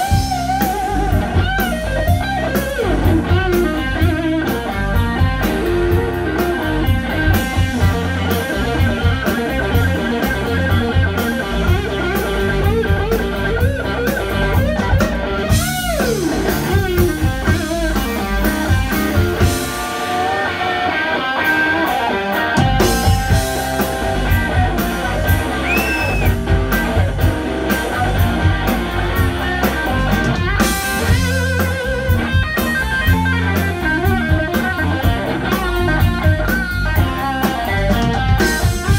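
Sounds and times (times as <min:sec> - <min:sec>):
bass: 0:00.0 - 0:38.9
drums: 0:00.0 - 0:38.9
electric guitar with string bends: 0:00.0 - 0:38.9.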